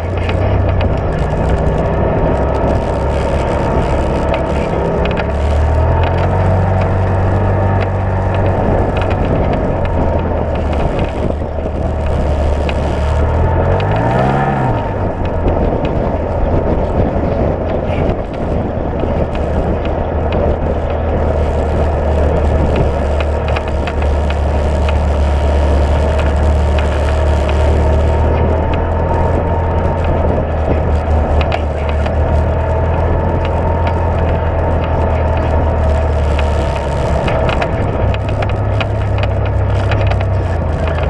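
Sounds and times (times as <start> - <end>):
off-road vehicle engine running: 0.0 - 41.0
tyre and chassis rattle: 0.0 - 41.0.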